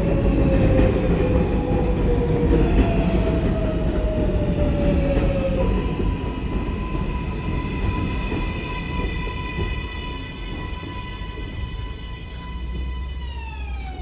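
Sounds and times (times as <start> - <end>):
subway train wheels rumbling on rail: 0.0 - 14.0.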